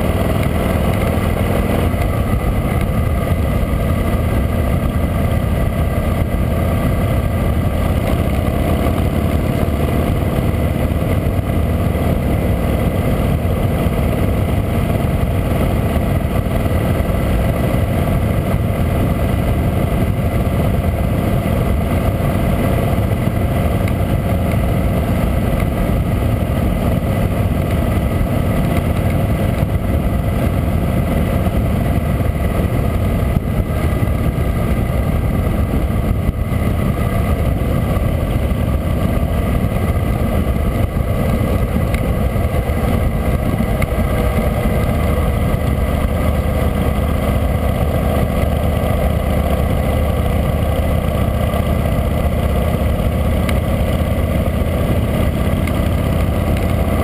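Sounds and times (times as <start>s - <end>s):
motorcycle engine cruising: 0.0s - 57.0s
wind rushing over camera: 0.0s - 57.0s.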